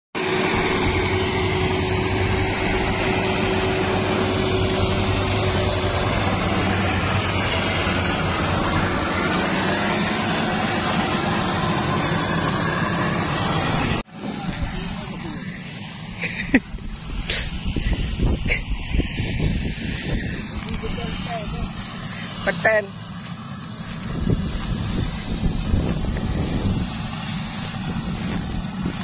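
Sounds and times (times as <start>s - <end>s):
combine harvester running: 0.2s - 29.0s
distant machine sound: 0.2s - 29.0s
high machine whine: 0.2s - 29.0s.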